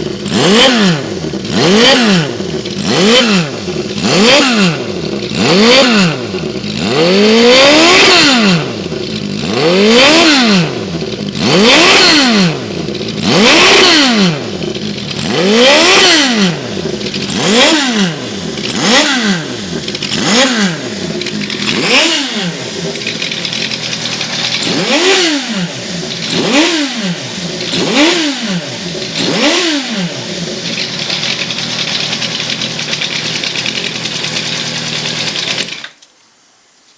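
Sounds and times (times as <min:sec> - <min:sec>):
motorcycle engine idling: 0:00.0 - 0:35.8
motorcycle engine revving: 0:00.0 - 0:35.9.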